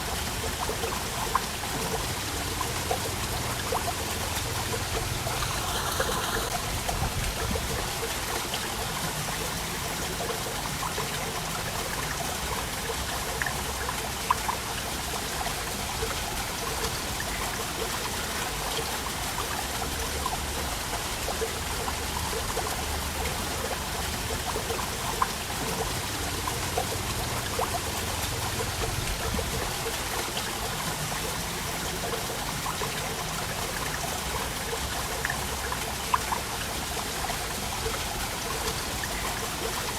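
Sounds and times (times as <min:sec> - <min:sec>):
water drips: 0:00.0 - 0:39.9
waterfall splashing: 0:00.0 - 0:39.9.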